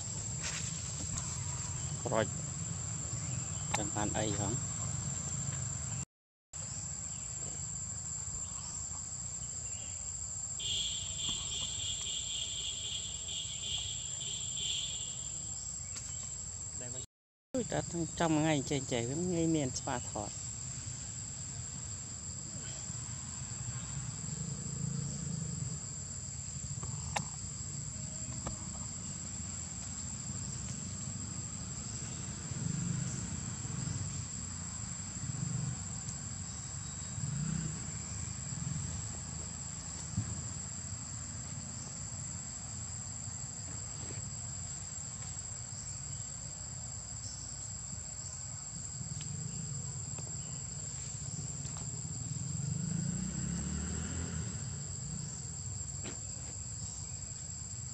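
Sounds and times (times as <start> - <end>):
insect chorus drone: 0.0 - 6.0, 6.6 - 57.9.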